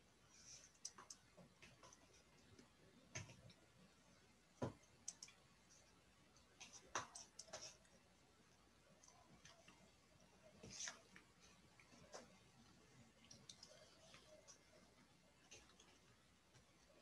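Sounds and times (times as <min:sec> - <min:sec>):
faint clicks and taps: 0:00.3 - 0:17.0.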